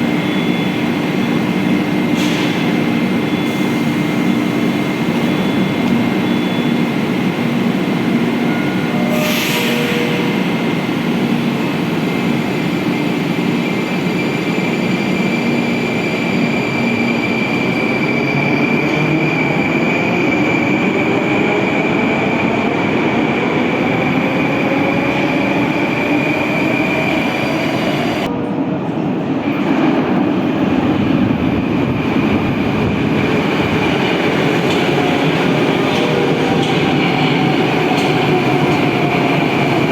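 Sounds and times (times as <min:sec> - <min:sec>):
train wheel and rail noise: 0:00.0 - 0:39.9.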